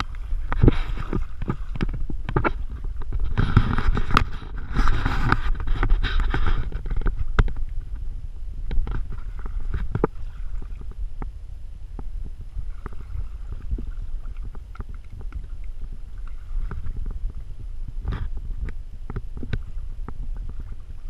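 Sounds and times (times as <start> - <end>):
water sloshing and splashing: 0.0 - 21.0
wind rumbling on microphone: 0.0 - 21.0.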